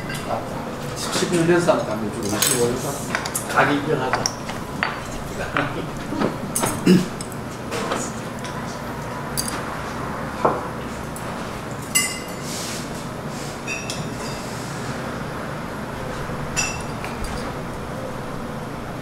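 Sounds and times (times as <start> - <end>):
restaurant room hum: 0.0 - 19.0.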